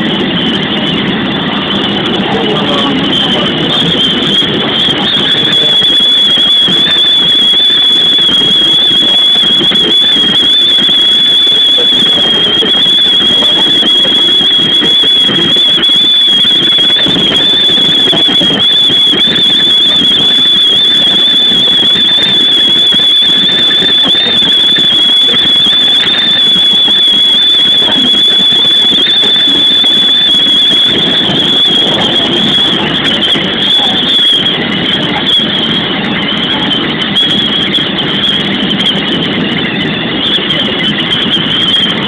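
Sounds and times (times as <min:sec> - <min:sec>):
steady high-pitched whistle: 0:00.0 - 0:42.0.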